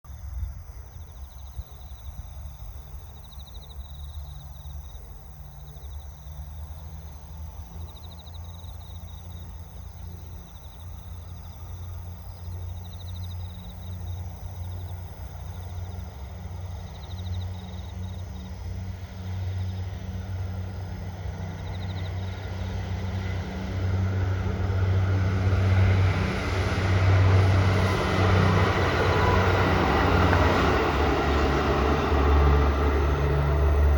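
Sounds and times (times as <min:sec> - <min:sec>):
diesel train approaching: 0:00.9 - 0:33.9.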